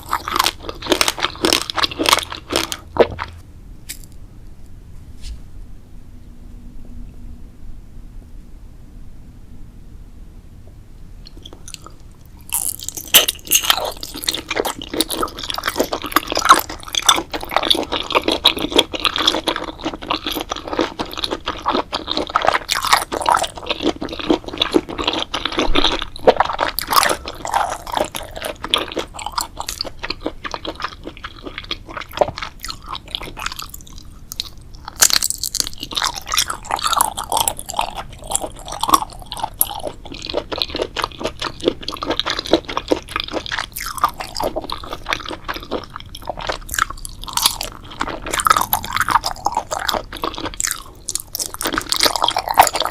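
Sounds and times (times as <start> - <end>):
crunching and chewing crisp food: 0.0 - 4.2, 11.2 - 52.9.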